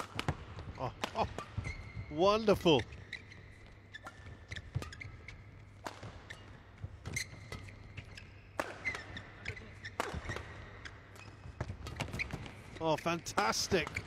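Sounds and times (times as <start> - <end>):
rackets hitting shuttlecock: 0.0 - 2.0, 2.9 - 14.0.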